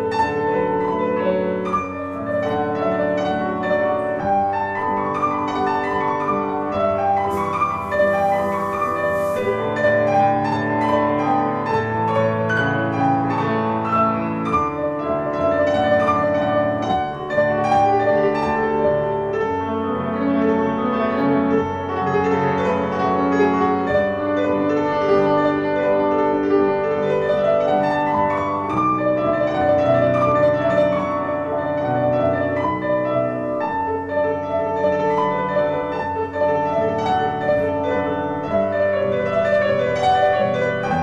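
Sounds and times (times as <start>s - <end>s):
classical piano piece: 0.0s - 41.0s.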